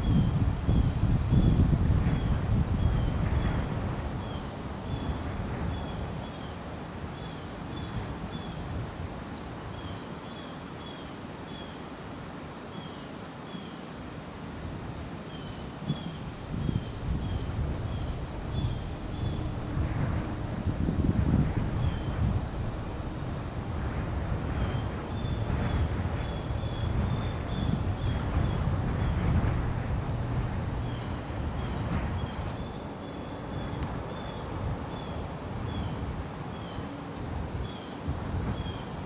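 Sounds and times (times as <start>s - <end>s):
wind gusting over microphone: 0.0s - 13.4s, 14.0s - 39.0s.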